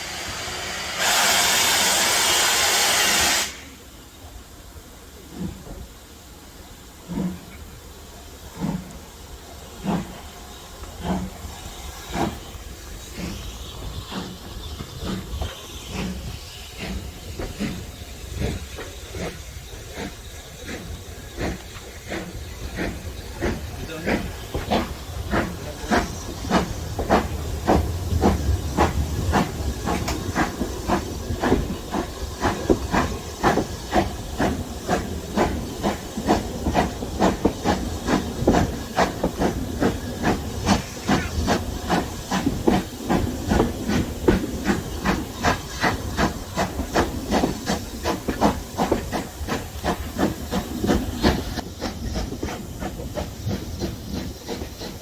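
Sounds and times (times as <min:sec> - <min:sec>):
steam hiss: 0:00.0 - 0:55.0
steam locomotive exhaust beats: 0:00.0 - 0:55.0.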